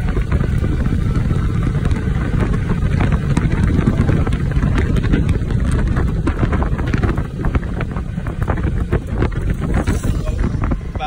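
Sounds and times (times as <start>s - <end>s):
motorbike engine rumble: 0.0s - 11.0s
tyres on asphalt: 0.0s - 11.0s
wind buffeting microphone: 0.0s - 11.0s.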